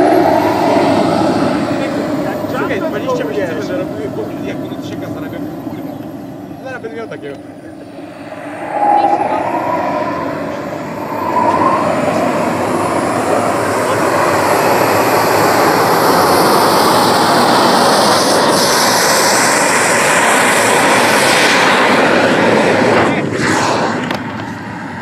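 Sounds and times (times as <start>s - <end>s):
high turbine whine: 0.0s - 25.0s
model jet turbine roaring: 0.0s - 25.0s.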